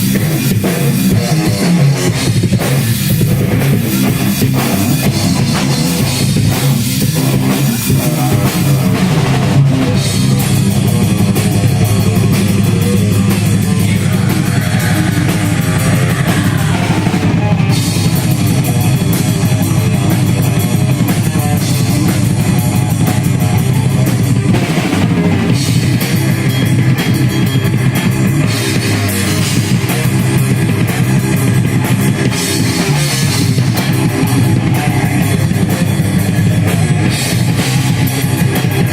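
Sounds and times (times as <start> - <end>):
fast drum hits: 0.0 - 38.9
rock band playing loudly: 0.0 - 38.9.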